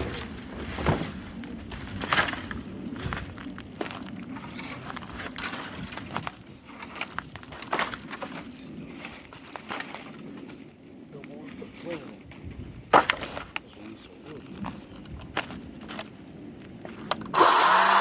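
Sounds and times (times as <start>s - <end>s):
crunching and cracking snaps: 0.0s - 17.4s.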